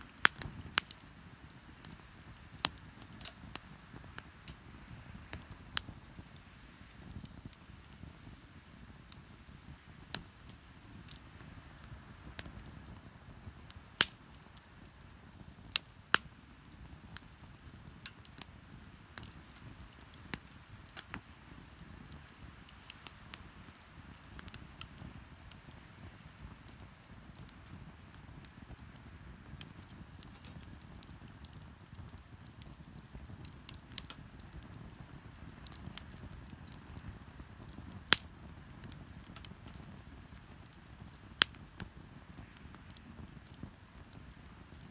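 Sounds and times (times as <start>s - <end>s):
bonfire crackling and popping: 0.0s - 44.9s.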